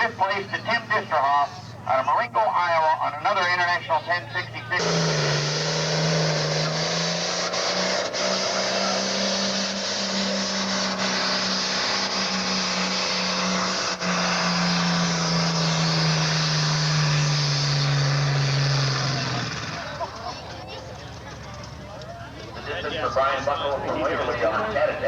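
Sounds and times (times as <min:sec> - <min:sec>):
tractor diesel engine revving high: 0:00.0 - 0:22.0.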